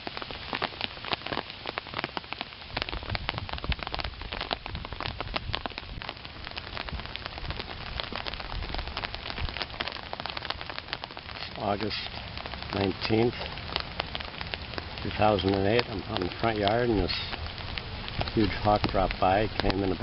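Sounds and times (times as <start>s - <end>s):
rain on an umbrella: 0.0s - 20.0s.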